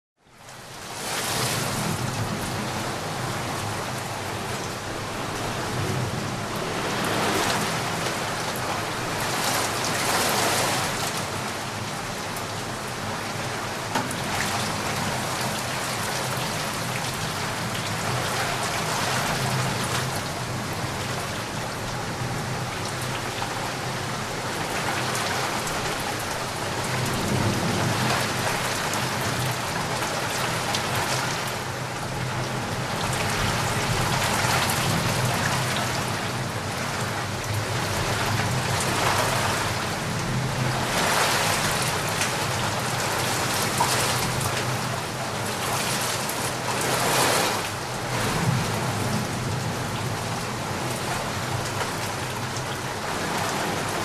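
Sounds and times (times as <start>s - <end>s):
heavy rain falling: 0.2s - 54.0s.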